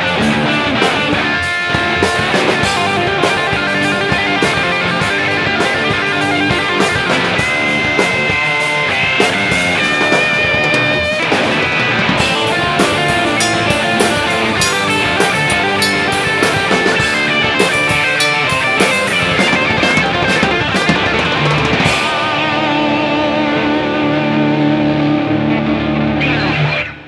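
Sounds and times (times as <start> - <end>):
drums: 0.0 - 27.0
electric guitar: 0.0 - 27.0.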